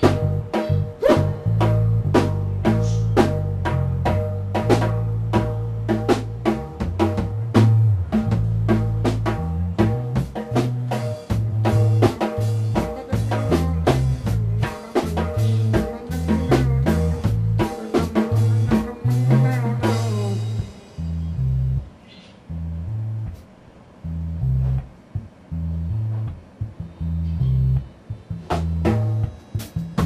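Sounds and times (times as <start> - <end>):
drum kit groove: 0.0 - 22.0, 23.1 - 23.7, 24.3 - 30.0
electric bass line: 0.0 - 23.4, 24.0 - 30.0.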